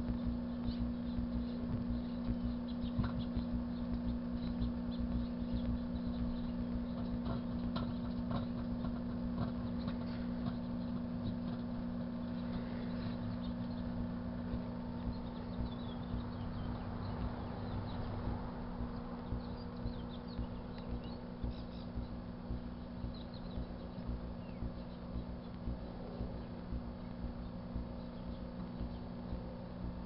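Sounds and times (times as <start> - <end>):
arcing crackles and pops: 0.0 - 30.0
microwave oven humming: 0.0 - 30.0.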